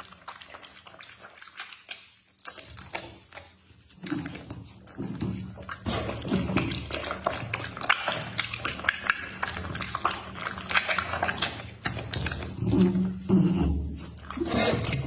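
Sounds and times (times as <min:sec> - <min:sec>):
dog chewing meat: 0:00.0 - 0:15.0.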